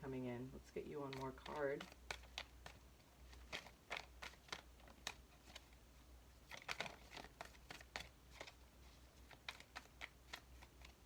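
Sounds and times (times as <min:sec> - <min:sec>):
low steady hum: 0:00.0 - 0:11.0
cards being shuffled: 0:01.0 - 0:05.8, 0:06.4 - 0:11.0.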